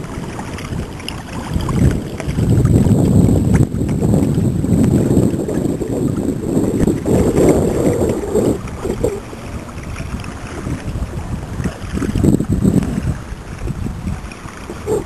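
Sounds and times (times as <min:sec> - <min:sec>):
water sloshing around hull: 0:00.0 - 0:15.0
wind buffeting microphone: 0:00.0 - 0:15.0.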